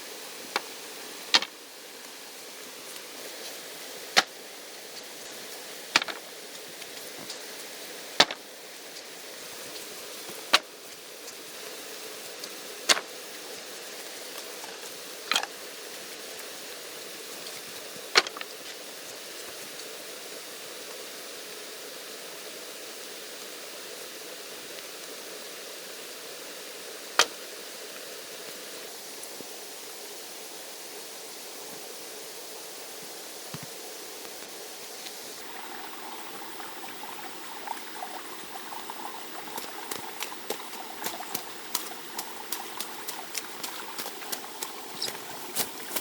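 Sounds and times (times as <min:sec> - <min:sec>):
running water rushing: 0:00.0 - 0:46.0.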